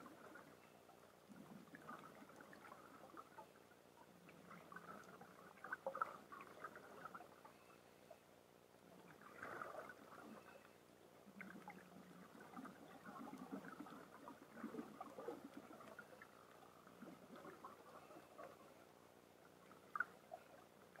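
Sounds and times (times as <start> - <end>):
underwater crackling and gurgling: 0.0 - 0.6, 1.2 - 7.8, 8.9 - 21.0.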